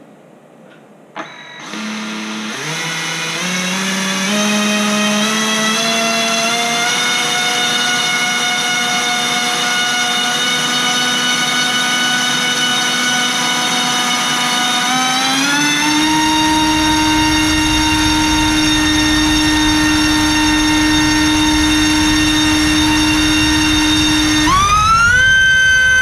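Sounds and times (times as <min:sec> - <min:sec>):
electric motor whining with propeller: 0:01.6 - 0:26.0.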